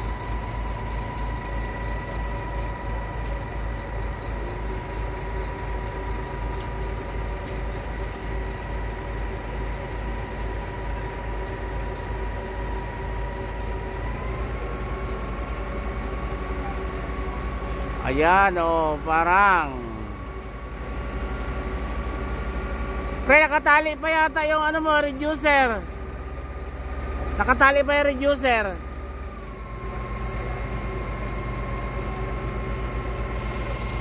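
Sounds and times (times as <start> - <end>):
diesel engine running: 0.0 - 34.0
high steady whine: 0.0 - 34.0.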